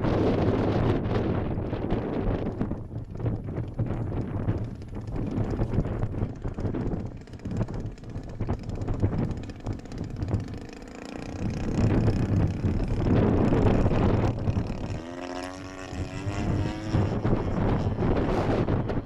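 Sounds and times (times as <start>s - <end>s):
model plane engine: 0.0s - 19.0s
wind buffeting microphone: 0.0s - 19.0s.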